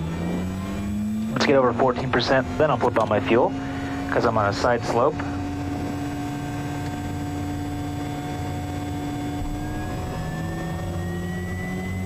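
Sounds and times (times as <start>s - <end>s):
turboprop engine starter whine: 0.0s - 12.0s.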